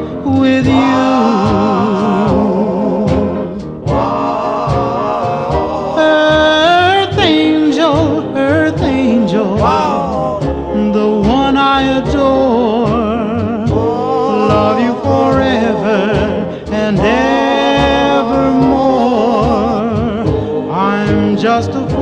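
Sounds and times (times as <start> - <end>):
backing band with steady beat: 0.0 - 22.0
singer with vibrato: 0.0 - 22.0.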